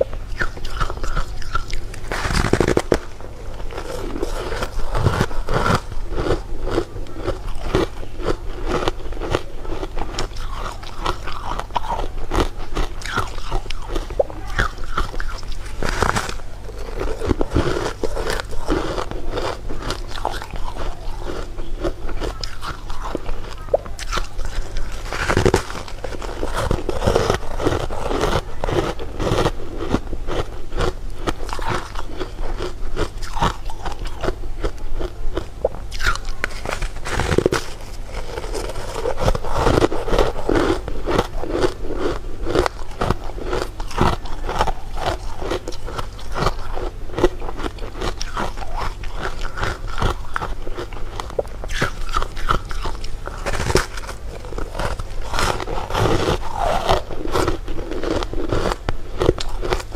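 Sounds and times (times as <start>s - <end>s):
crunchy bites and chewing: 0.0s - 59.9s.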